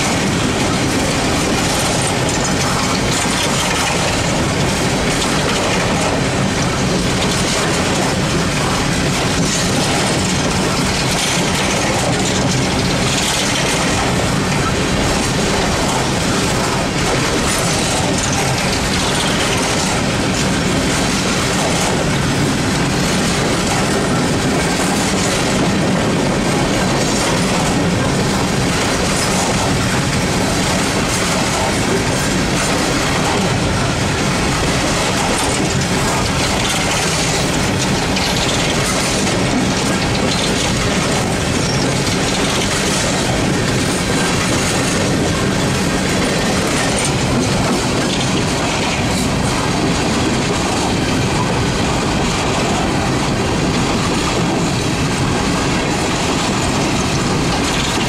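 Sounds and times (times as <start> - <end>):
clatter over rail joints: 0.0 - 58.0
train wheels rumbling on rail: 0.0 - 58.0.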